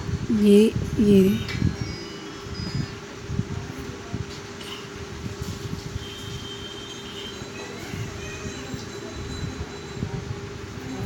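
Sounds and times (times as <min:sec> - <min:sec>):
mechanical hum with even tone: 0:00.0 - 0:11.0.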